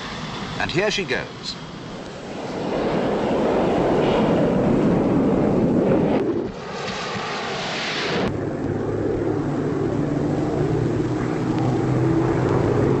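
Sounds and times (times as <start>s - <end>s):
hissing rush: 0.0s - 13.0s
jet engine drone: 0.0s - 13.0s.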